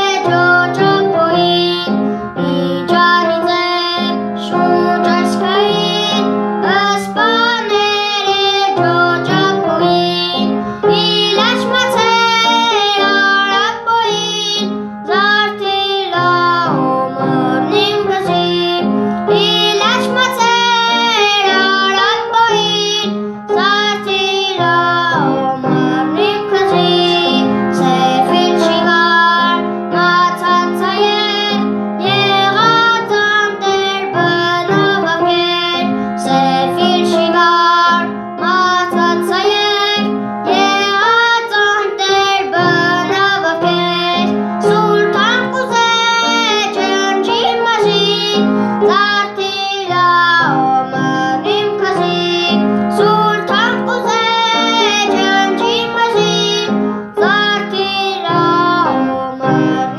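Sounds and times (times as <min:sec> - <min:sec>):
boy singing: 0:00.0 - 0:59.9
instrumental accompaniment: 0:00.0 - 0:59.9.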